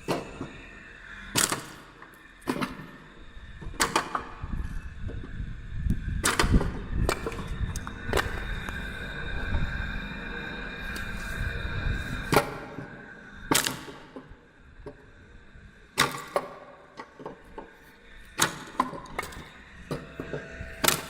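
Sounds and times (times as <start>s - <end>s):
machine whine and rumble: 0.0s - 21.0s.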